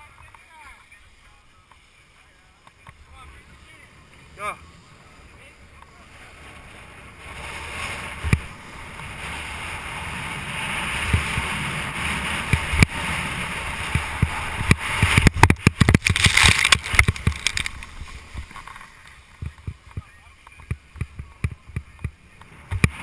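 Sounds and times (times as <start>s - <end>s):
board chattering over rough snow: 0.0s - 23.0s
snowboard scraping over snow: 0.0s - 23.0s
wind buffeting microphone: 2.9s - 23.0s.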